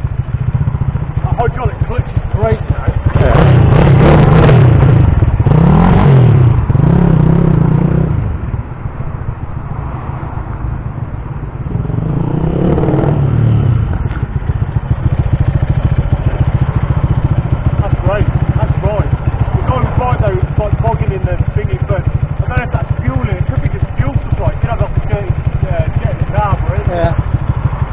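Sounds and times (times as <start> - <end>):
minibike engine revving: 0.0 - 8.5, 11.7 - 27.9.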